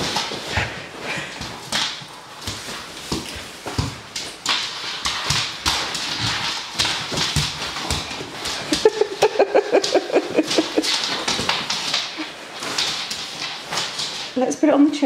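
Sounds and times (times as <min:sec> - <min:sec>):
claws clicking on laminate floor: 0:00.0 - 0:14.4
fabric rustling: 0:00.0 - 0:15.0.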